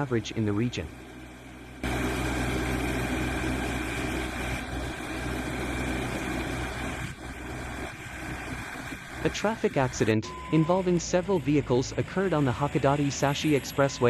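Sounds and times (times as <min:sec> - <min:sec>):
steady higher tones: 0:00.0 - 0:14.0
vehicle engine humming: 0:00.0 - 0:14.0.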